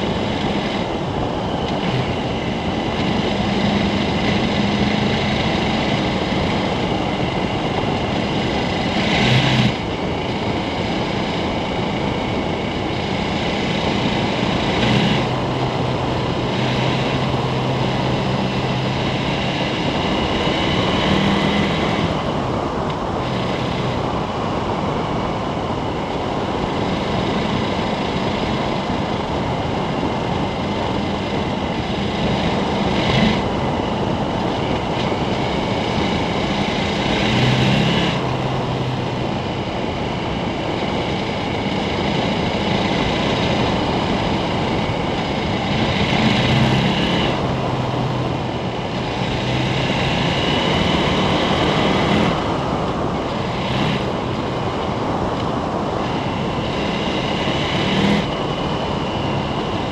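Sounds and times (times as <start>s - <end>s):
motorcycle engine running: 0.0s - 59.9s
wind rushing on camera: 0.0s - 59.9s.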